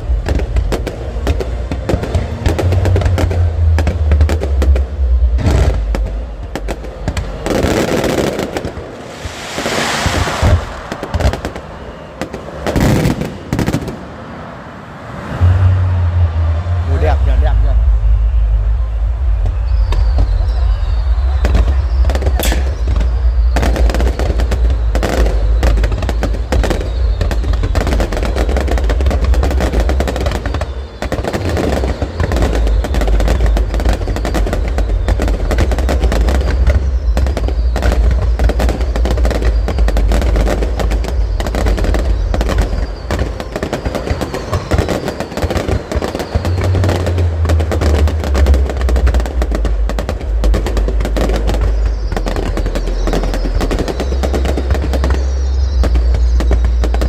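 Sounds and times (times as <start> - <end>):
fireworks bangs and crackles: 0.0 - 14.6, 15.4 - 57.0
low fireworks rumble: 0.0 - 57.0.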